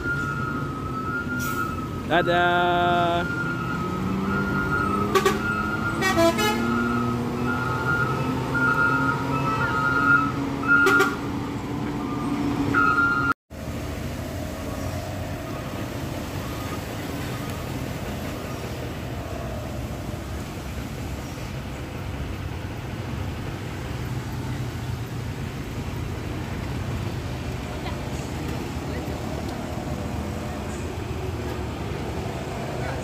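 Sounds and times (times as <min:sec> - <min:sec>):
heavy road vehicle engine: 0:00.0 - 0:33.0
road noise: 0:00.0 - 0:33.0.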